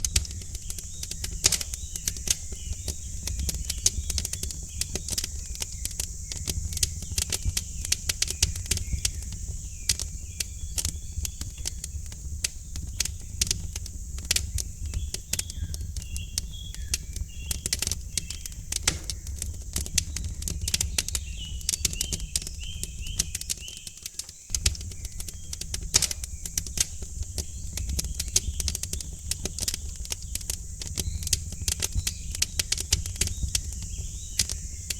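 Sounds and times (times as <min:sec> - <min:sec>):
small birds chirping: 0:00.0 - 0:34.9
steady high hiss: 0:00.0 - 0:34.9
wood fire crackling and popping: 0:00.0 - 0:34.9.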